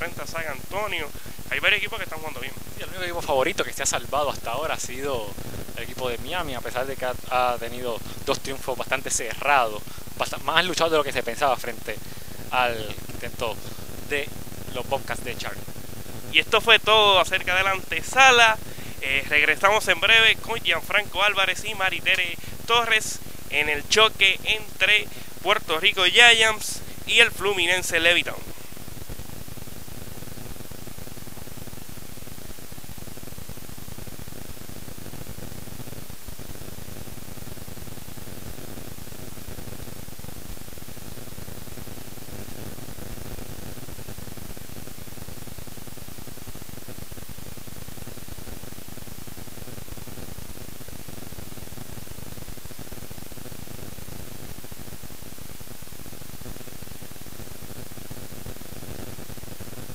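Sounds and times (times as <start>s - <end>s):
faint hum: 0.0s - 59.9s
static hiss: 0.0s - 59.9s.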